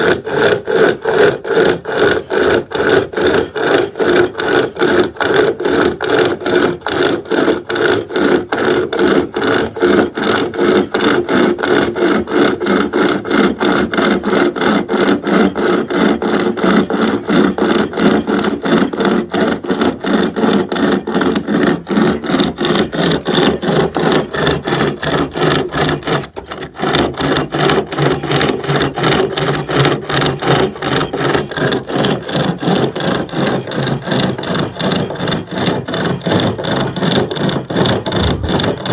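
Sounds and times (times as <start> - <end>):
hand chainsaw sawing wood: 0.0 - 38.9.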